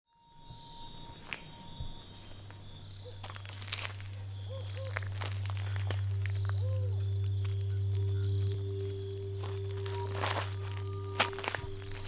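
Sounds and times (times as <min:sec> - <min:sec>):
low steady drone: 0:00.1 - 0:12.0
crickets trilling: 0:00.2 - 0:12.0
insect clicks and chirps: 0:00.6 - 0:12.0.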